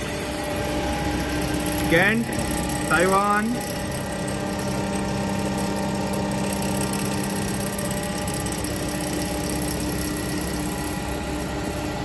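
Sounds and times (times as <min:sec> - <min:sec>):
grinding machine hum and whir: 0:00.0 - 0:12.0.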